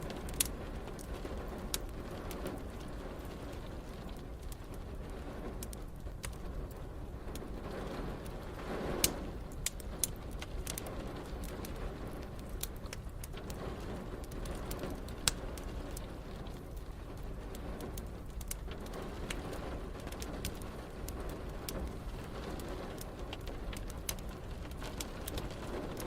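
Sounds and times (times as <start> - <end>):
rain rushing: 0.0 - 26.0
wood fire crackling: 0.0 - 26.0.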